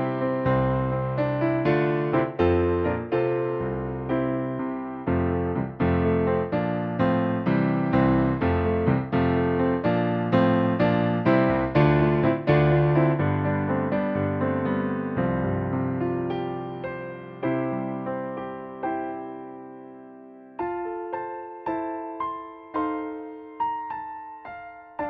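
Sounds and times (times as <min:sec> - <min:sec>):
solo piano chords: 0:00.0 - 0:25.0.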